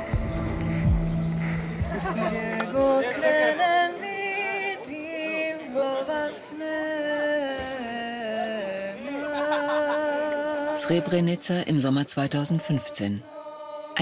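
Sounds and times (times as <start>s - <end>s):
slow sung melody: 0.0s - 14.0s.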